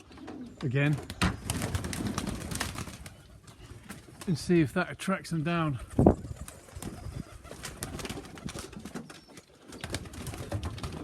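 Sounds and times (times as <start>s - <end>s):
pigeons cooing: 0.0s - 4.2s, 5.7s - 11.0s.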